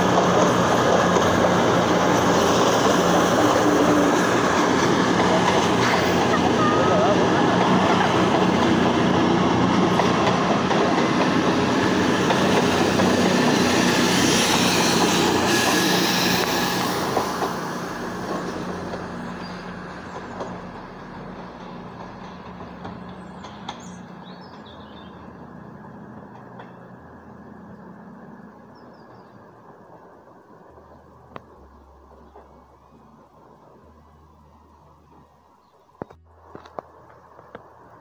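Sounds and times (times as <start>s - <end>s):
train wheels rumbling and clattering: 0.0s - 35.4s.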